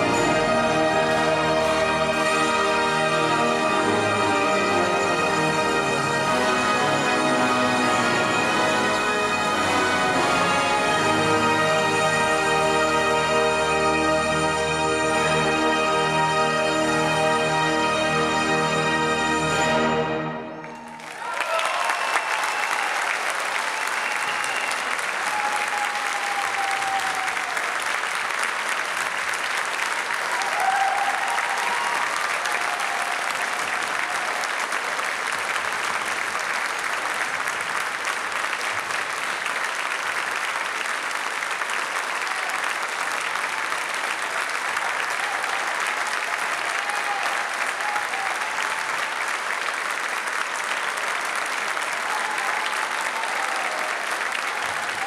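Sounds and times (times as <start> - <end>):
audience applauding: 0.0 - 55.0.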